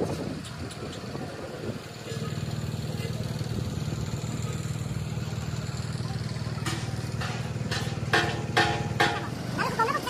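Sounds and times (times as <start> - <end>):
small engine idling: 0.2 - 10.0.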